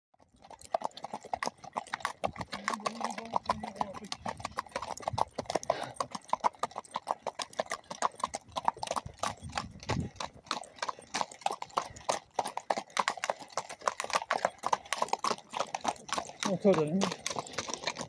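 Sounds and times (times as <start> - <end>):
horse hooves on dirt road: 0.2 - 18.0.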